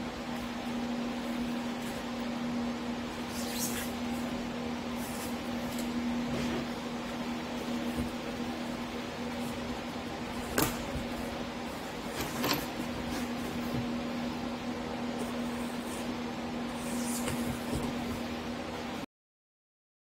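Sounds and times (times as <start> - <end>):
drum fan humming: 0.0 - 19.0.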